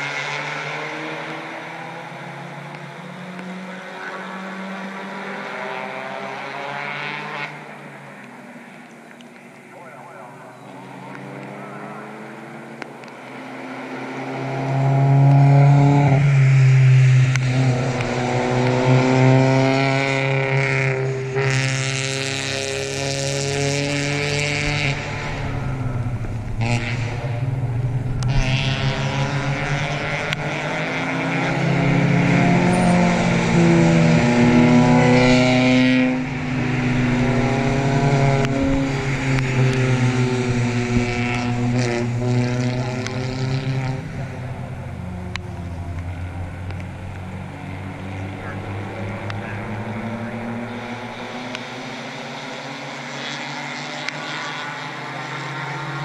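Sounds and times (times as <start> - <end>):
race cars passing: 0.0 - 56.0.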